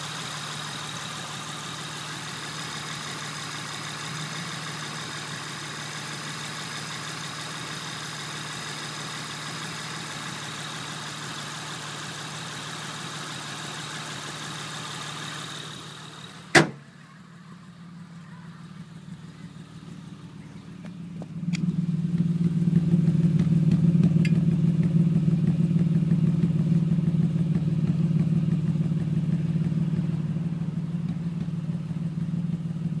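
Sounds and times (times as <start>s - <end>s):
car engine hum with high whine: 0.0s - 33.0s.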